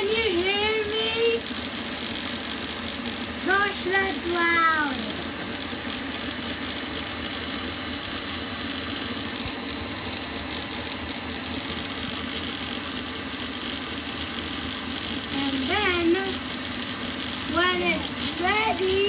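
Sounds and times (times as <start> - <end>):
electric mixer beating: 0.0 - 19.0.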